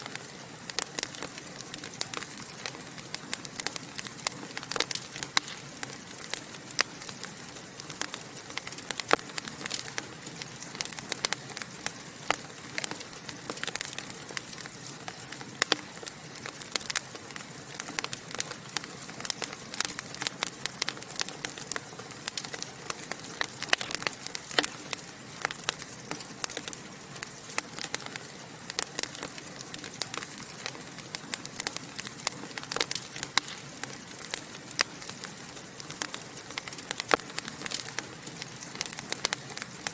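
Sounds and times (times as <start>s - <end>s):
hiss of burning: 0.0s - 39.9s
wood fire crackling and popping: 0.0s - 39.9s.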